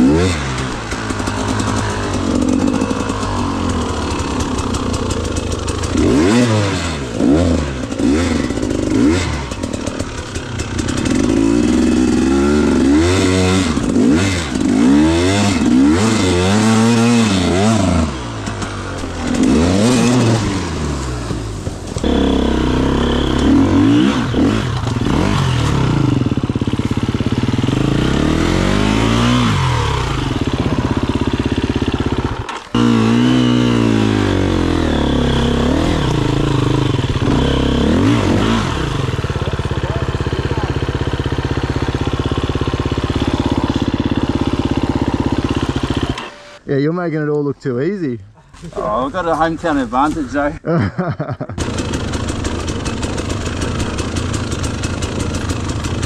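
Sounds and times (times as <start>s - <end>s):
dirt bike engine revving: 0.0s - 46.7s, 48.9s - 56.0s.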